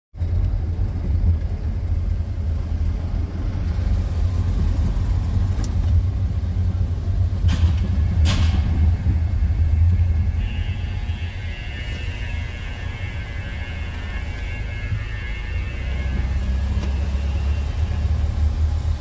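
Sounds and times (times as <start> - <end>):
low mechanical rumble: 0.2 - 19.0.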